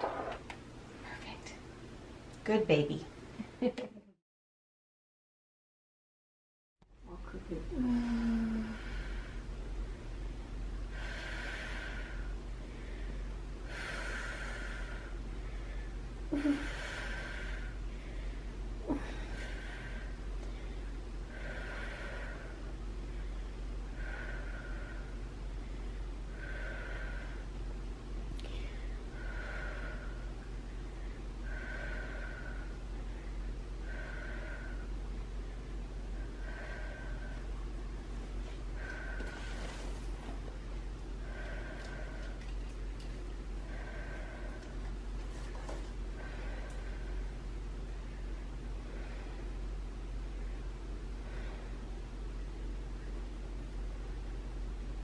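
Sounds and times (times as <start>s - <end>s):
low steady hum: 0.0s - 4.2s, 6.8s - 55.0s
woman breathing slowly and deeply: 7.7s - 27.7s, 28.4s - 52.7s.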